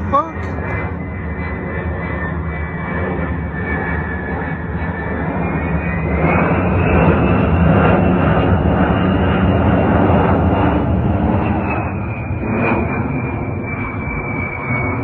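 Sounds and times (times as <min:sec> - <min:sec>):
jet plane passing overhead: 0:00.0 - 0:15.0.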